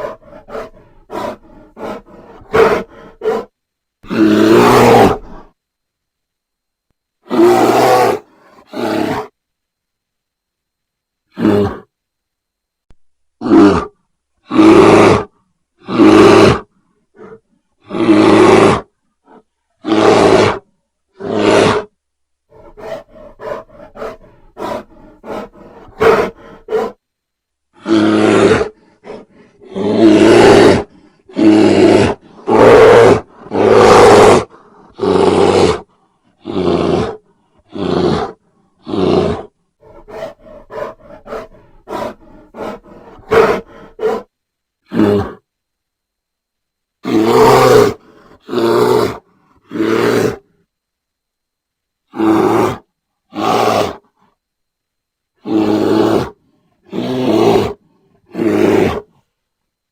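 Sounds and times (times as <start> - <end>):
bear grunting: 0.0 - 5.6, 7.2 - 9.4, 11.3 - 11.9, 13.4 - 21.9, 22.5 - 27.0, 27.7 - 45.4, 47.0 - 50.6, 52.1 - 54.2, 55.4 - 59.2
bear roaring: 0.0 - 5.6, 7.2 - 9.4, 11.3 - 11.9, 13.4 - 27.0, 27.7 - 45.4, 47.0 - 50.6, 52.1 - 54.2, 55.4 - 59.3.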